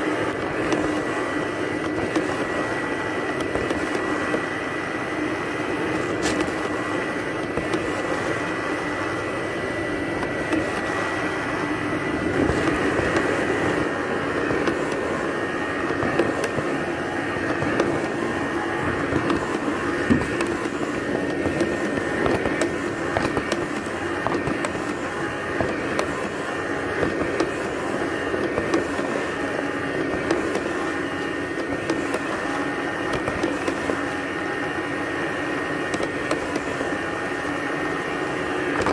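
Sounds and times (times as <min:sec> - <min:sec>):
robot vacuum cleaner humming: 0:00.0 - 0:38.9.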